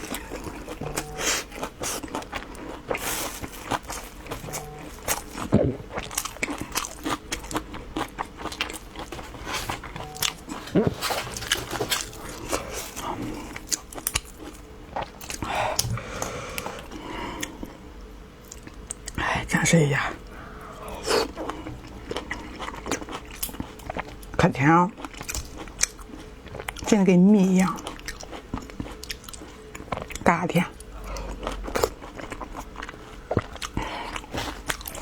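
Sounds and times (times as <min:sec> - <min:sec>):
crunchy bites and chewing: 0:00.0 - 0:17.8, 0:20.2 - 0:24.4, 0:25.0 - 0:35.0.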